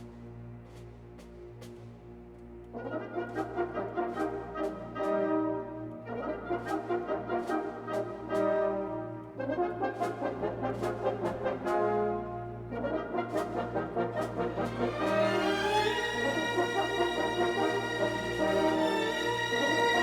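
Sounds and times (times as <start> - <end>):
brass music over steady beat: 0.0 - 20.0.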